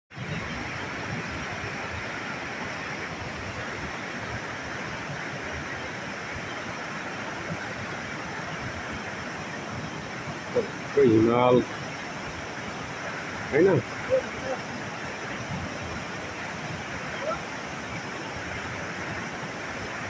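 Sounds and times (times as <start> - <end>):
fast-flowing water rushing: 0.1 - 20.0.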